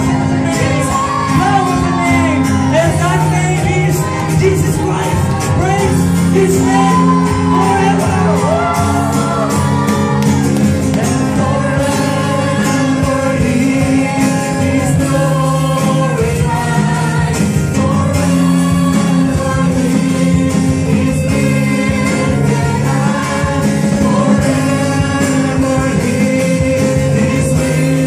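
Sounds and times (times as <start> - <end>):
band with guitars and beat: 0.0 - 28.0
singers singing: 0.0 - 28.0.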